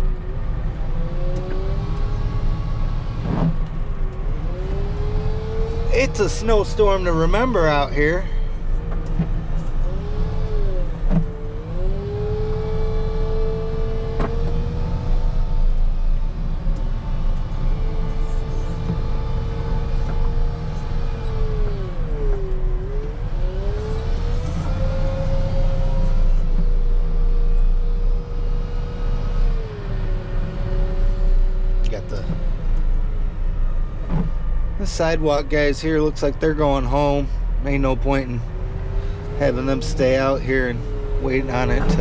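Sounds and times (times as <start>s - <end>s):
diesel engine low rumble: 0.0s - 42.0s
drivetrain whine: 0.0s - 42.0s.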